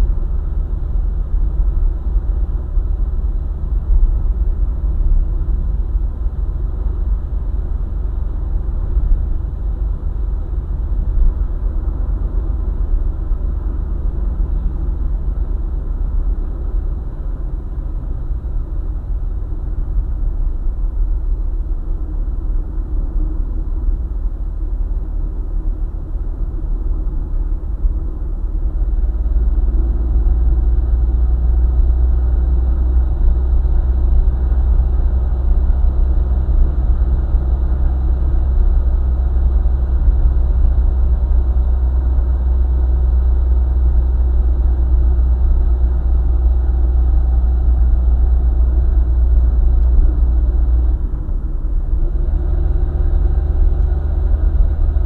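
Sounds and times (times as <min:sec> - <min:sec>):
car engine rumble: 0:00.0 - 0:55.0
tyre road noise: 0:00.0 - 0:55.0.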